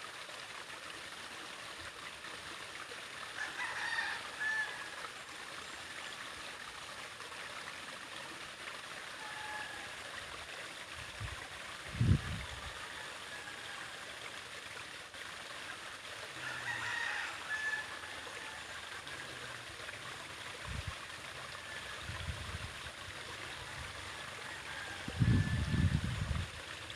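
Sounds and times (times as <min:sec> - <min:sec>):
water rippling over stones: 0:00.0 - 0:26.9.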